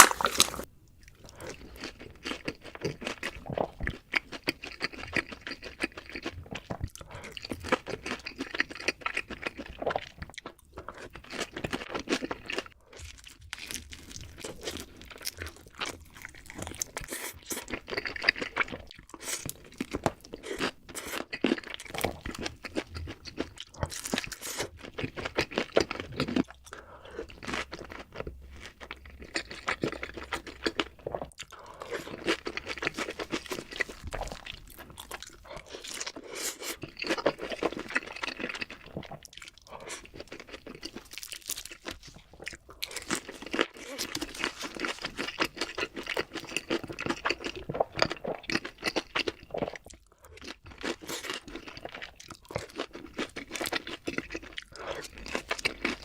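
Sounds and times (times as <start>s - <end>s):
crunchy chewing of food: 0.0s - 56.0s.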